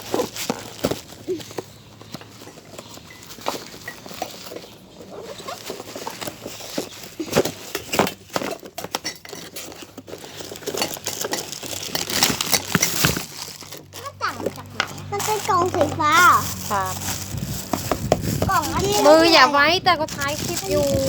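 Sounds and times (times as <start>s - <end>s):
small objects clicking and rustling: 0.0s - 21.0s.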